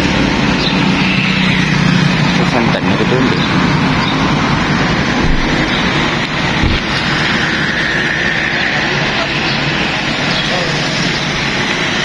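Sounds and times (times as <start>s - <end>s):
faint vehicle whine: 0.0s - 12.0s
road traffic passing: 0.0s - 12.0s.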